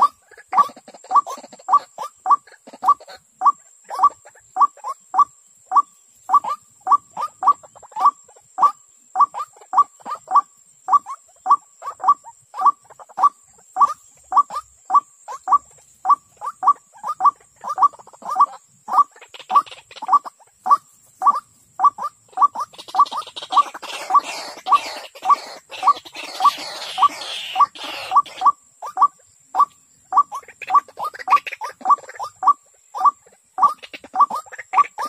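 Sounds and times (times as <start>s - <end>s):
bird calling harsh notes: 0.0s - 35.0s.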